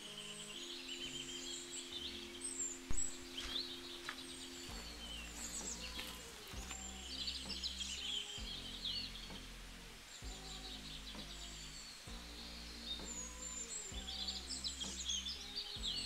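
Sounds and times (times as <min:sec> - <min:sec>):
small birds chirping: 0:00.0 - 0:16.0
soft music of held chords: 0:00.0 - 0:16.0.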